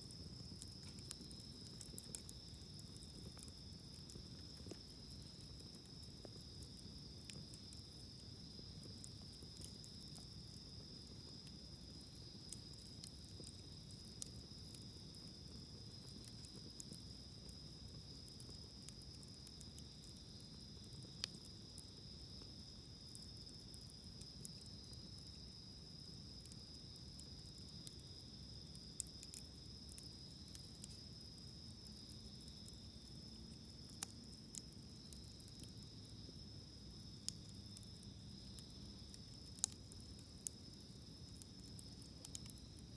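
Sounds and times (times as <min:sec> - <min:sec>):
campfire crackling and popping: 0:00.0 - 0:42.9
crickets trilling: 0:00.0 - 0:42.9.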